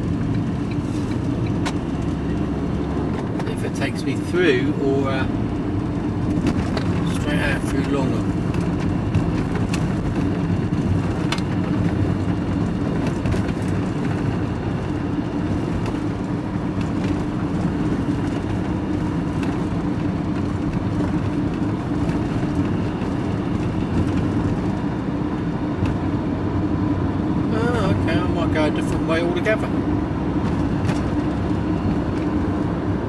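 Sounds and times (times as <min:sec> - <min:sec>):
engine hum inside vehicle: 0:00.0 - 0:33.0
road noise inside vehicle: 0:00.0 - 0:33.0.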